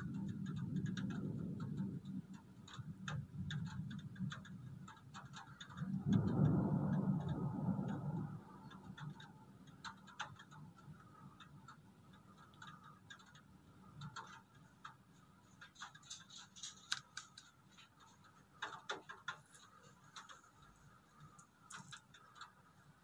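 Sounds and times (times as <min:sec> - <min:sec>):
raindrops tapping: 0:00.0 - 0:23.0.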